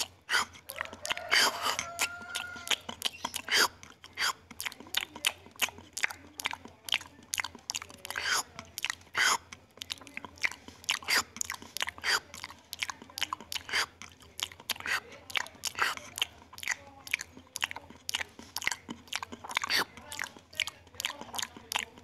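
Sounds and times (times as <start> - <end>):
monkey chewing food: 0.0 - 22.0
mouth smacks and crunches: 0.0 - 22.0.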